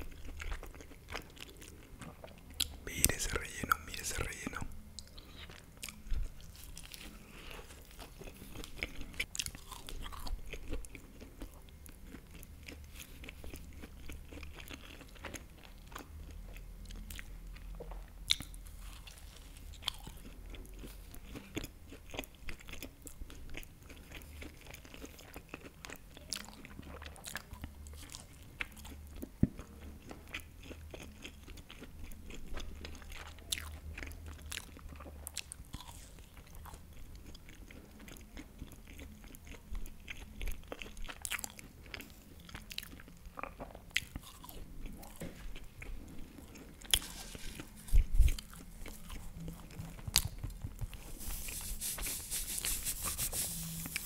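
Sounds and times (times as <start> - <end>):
biting and chewing pastry: 0.0 - 54.0.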